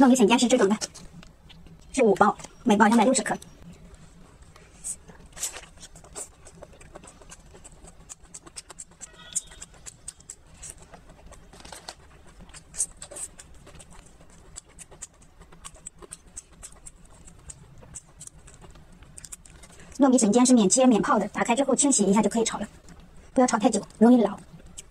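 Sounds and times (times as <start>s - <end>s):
wet chewing and mouth sounds: 0.2s - 24.9s.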